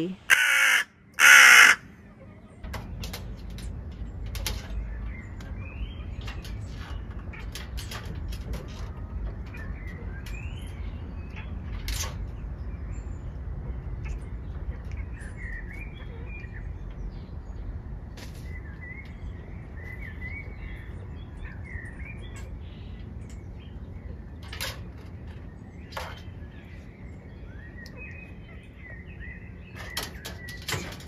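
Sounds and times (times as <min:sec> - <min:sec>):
low outdoor rumble: 0:00.0 - 0:31.0
songbirds chirping: 0:00.0 - 0:31.0.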